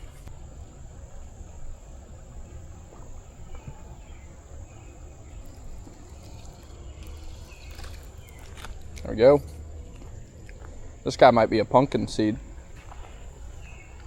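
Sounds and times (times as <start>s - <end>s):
insects droning: 0.0s - 14.0s
low outdoor rumble: 0.0s - 14.0s.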